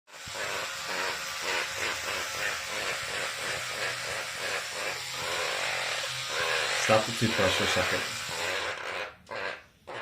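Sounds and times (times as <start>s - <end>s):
toothbrush scrubbing: 0.1s - 10.0s.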